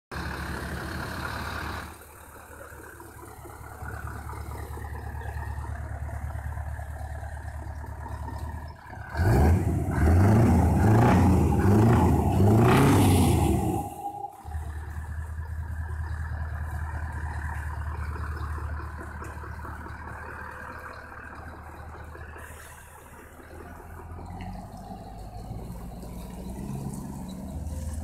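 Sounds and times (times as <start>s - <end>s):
diesel engine idling and revving: 0.1s - 28.0s.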